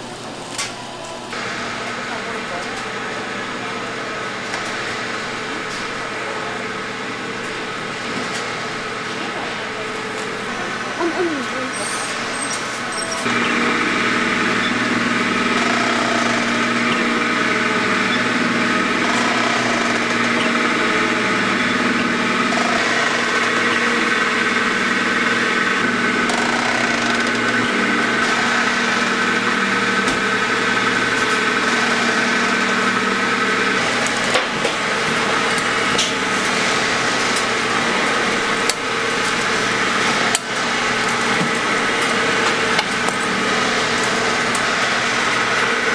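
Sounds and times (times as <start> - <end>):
machinery hum with whining tones: 0.0 - 45.9.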